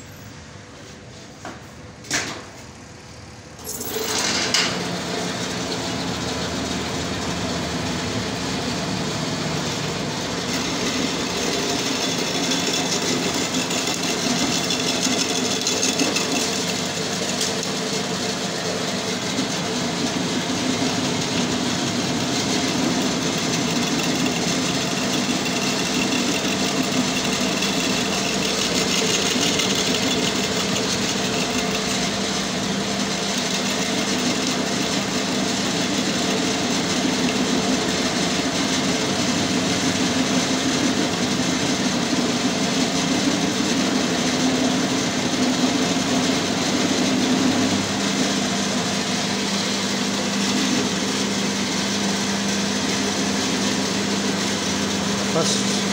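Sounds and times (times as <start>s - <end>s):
metal lathe running: 3.6s - 55.9s.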